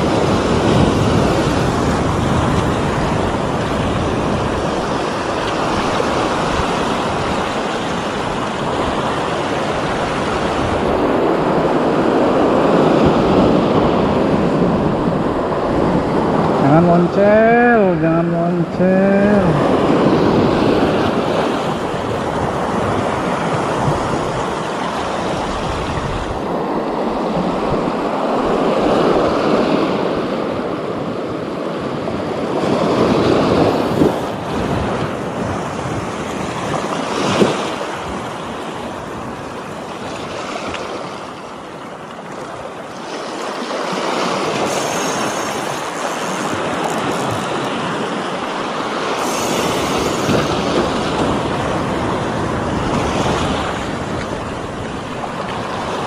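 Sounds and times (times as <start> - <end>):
sea waves washing onto beach: 0.0 - 56.0.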